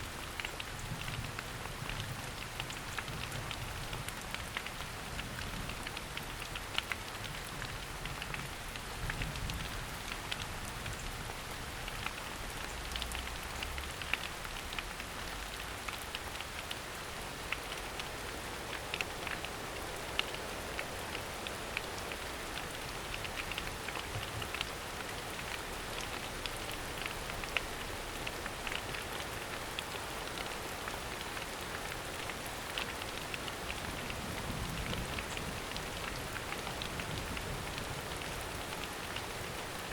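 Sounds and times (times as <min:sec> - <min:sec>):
rain hiss in forest: 0:00.0 - 0:39.9.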